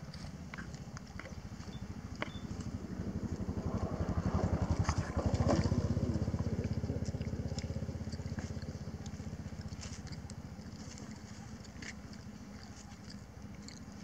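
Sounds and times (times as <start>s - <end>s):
engine running with low throb: 0.0s - 14.0s.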